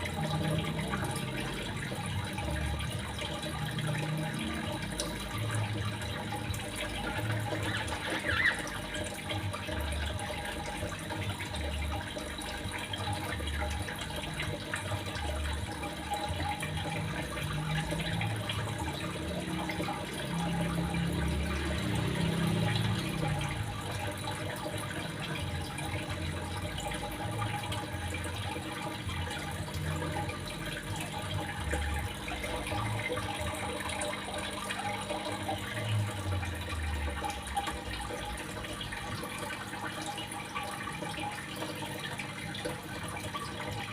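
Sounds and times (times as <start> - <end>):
running water splashing: 0.0 - 43.9.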